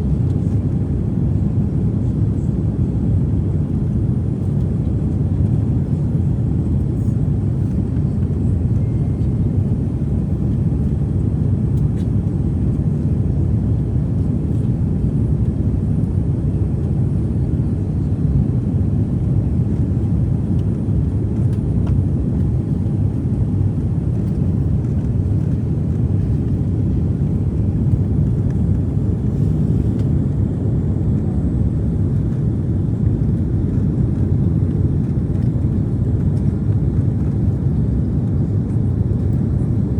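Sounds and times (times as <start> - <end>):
airliner engines and airflow rumble: 0.0 - 39.9.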